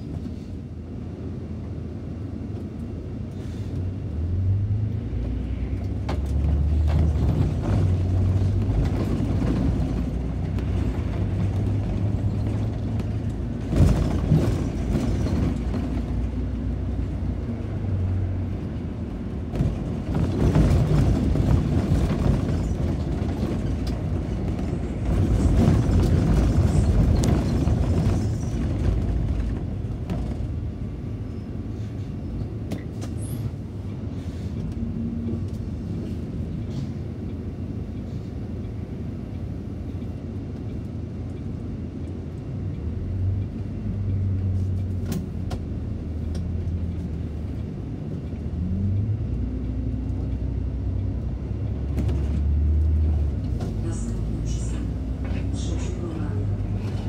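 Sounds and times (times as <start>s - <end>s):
bus engine rumble: 0.0s - 57.0s
road noise inside bus: 0.0s - 57.0s.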